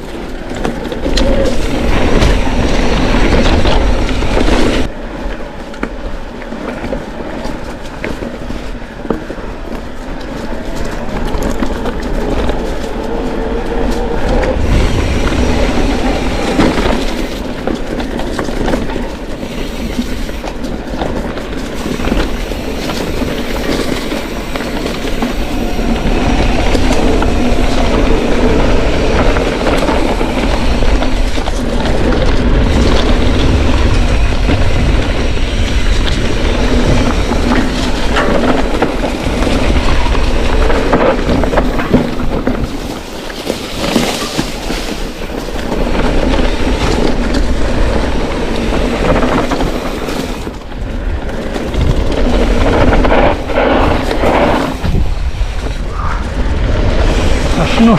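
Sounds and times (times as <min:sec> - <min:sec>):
bike chain and frame clatter: 0:00.0 - 0:57.9.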